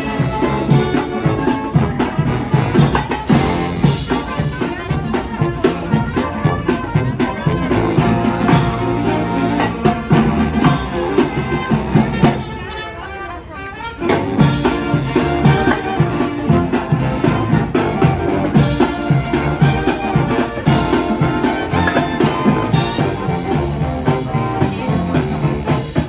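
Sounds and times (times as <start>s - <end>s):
music with brass and drums: 0.0s - 26.0s.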